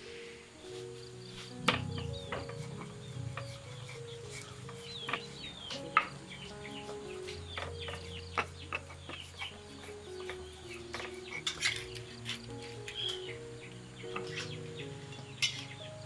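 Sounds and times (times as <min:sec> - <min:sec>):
small birds chirping: 0:00.0 - 0:16.0
soft instrumental music: 0:00.0 - 0:16.0.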